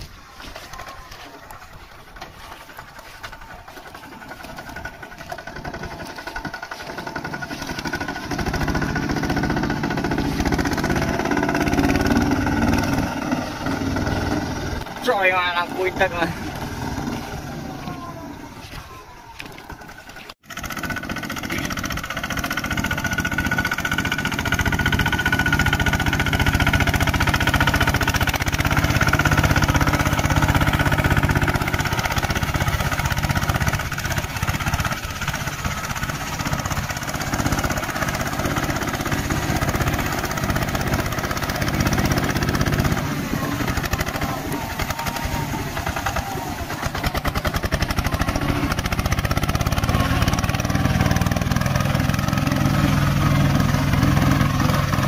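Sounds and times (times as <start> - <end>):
walking tractor engine running: 0.0 - 55.0
wheels churning through water: 0.0 - 55.0.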